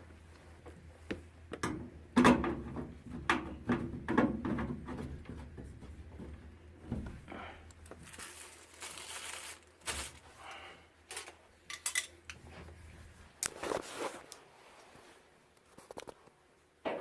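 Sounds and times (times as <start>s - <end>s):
crinkling and rustling handling noise: 2.6s - 16.4s.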